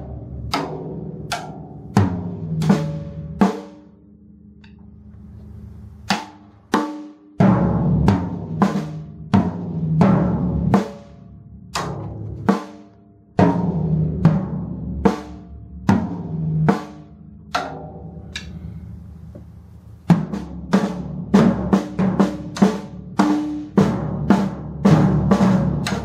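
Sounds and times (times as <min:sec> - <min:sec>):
acoustic drum kit playing: 0:00.0 - 0:04.0, 0:04.6 - 0:26.0.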